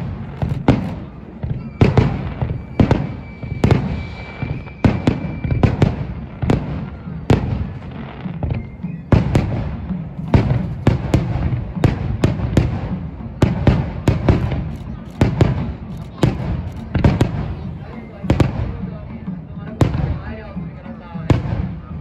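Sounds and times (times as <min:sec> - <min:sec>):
firework shells booming: 0:00.0 - 0:18.7.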